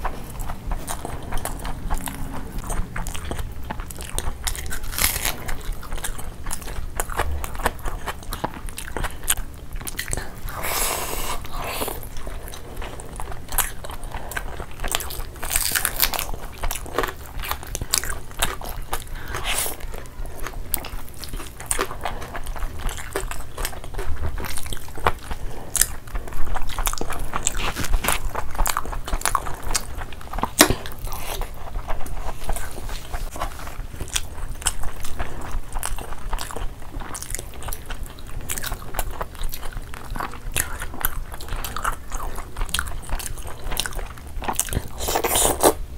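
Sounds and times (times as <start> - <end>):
people chewing food: 0.0 - 45.9.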